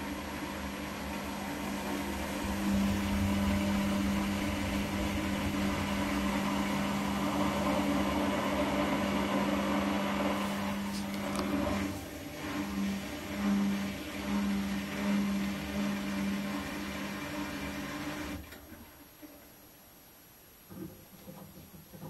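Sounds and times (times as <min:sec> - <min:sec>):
washing machine motor humming: 0:00.0 - 0:19.2.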